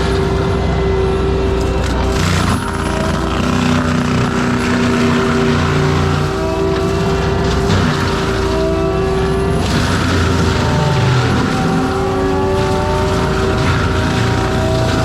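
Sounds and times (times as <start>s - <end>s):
diesel engine and mulcher running: 0.0s - 15.0s.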